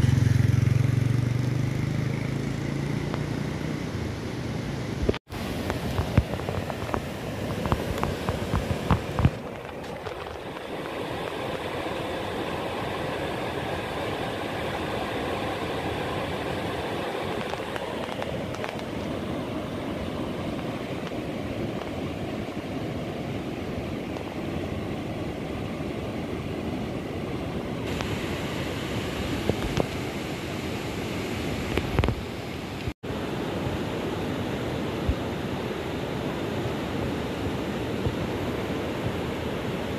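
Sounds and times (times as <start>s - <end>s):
river rushing over rapids: 3.6s - 39.9s.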